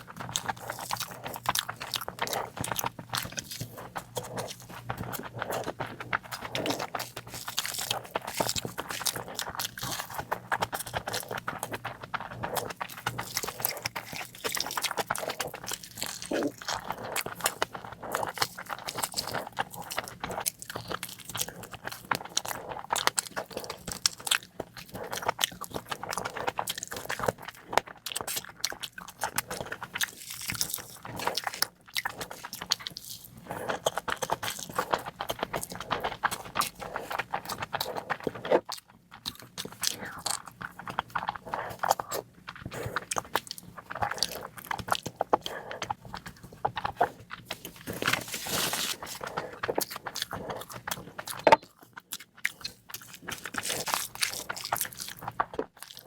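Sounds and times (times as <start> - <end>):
person chewing and biting food: 0.0 - 56.0.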